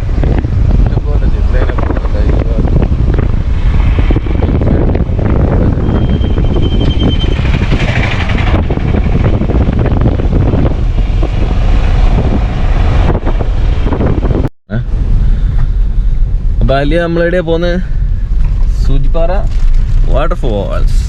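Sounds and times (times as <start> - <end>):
vehicle road noise: 0.0 - 21.0
wind buffeting microphone: 0.0 - 21.0.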